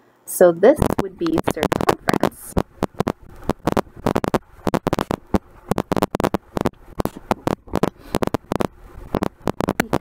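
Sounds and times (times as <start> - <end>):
stylus tapping on tablet screen: 0.8 - 10.0.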